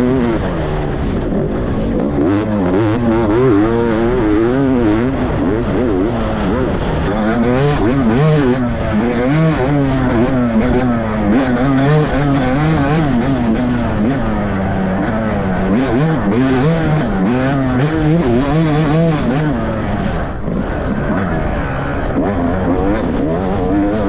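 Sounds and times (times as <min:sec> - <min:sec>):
dirt bike engine revving: 0:00.0 - 0:24.0
wind and tyre noise: 0:00.0 - 0:24.0.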